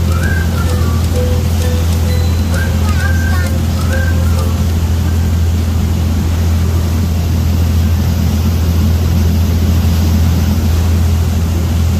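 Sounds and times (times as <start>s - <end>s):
boat engine humming: 0.0s - 11.9s
churning wake rushing: 0.0s - 11.9s.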